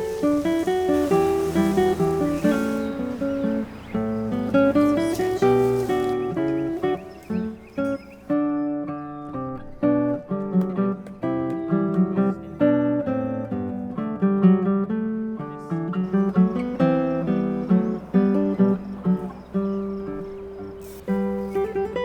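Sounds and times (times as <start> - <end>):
acoustic guitar picking a tune: 0.0 - 22.0.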